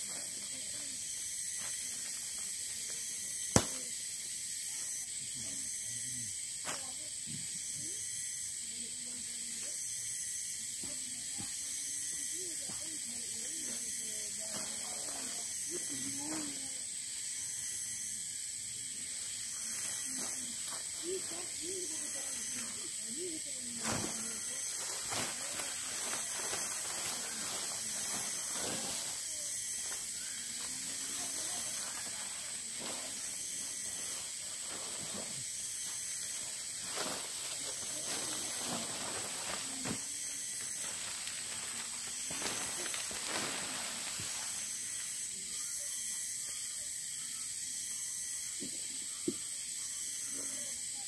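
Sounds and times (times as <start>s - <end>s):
steady high hiss: 7.6s - 51.0s.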